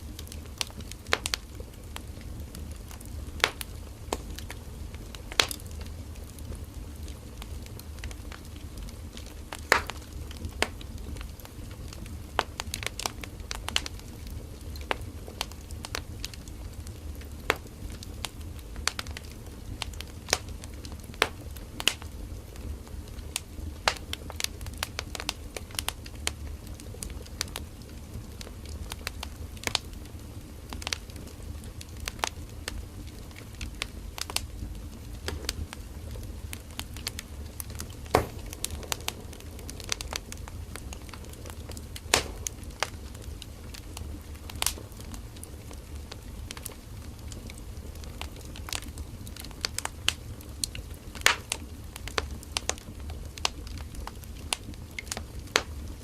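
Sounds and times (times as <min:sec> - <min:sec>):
campfire popping and crackling: 0:00.0 - 0:56.0.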